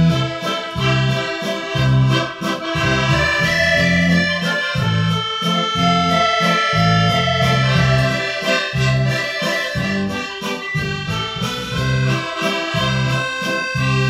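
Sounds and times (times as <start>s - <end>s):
accordion music: 0.0s - 14.0s
bass line: 0.0s - 14.0s.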